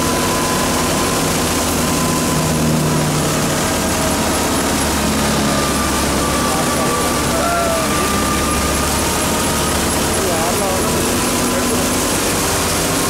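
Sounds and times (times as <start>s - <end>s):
thin mechanical whine: 0.0s - 13.0s
thresher drum spinning: 0.0s - 13.0s
tractor engine: 0.0s - 13.0s.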